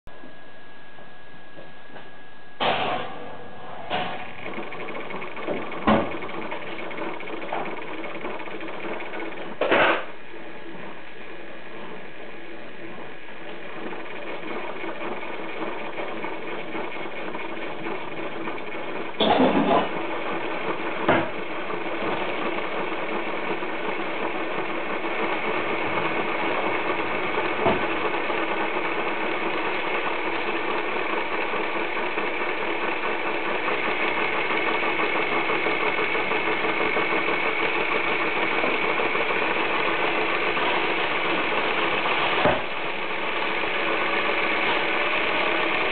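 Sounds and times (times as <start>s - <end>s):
model locomotive motor whirring: 3.9s - 45.9s.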